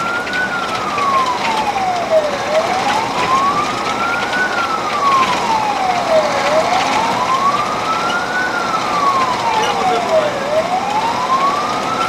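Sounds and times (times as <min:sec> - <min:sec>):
fire engine siren wailing: 0:00.0 - 0:12.0
road and engine noise: 0:00.0 - 0:12.0.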